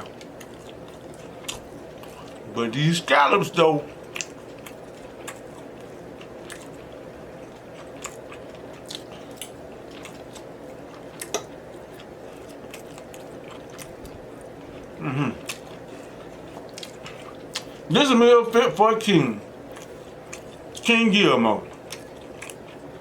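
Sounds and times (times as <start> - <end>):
person chewing food: 0.0 - 2.5, 3.8 - 17.9, 19.4 - 20.9, 21.6 - 23.0.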